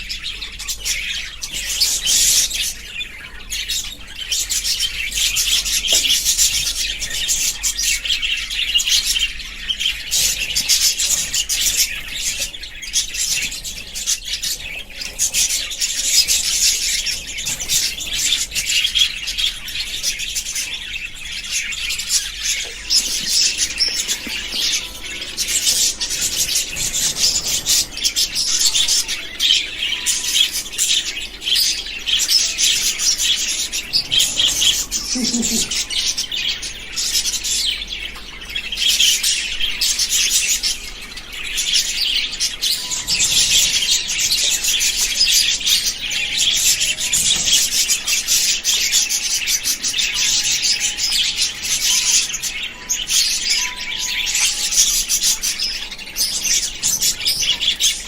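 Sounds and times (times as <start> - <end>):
budgies chirping: 0.0 - 58.0.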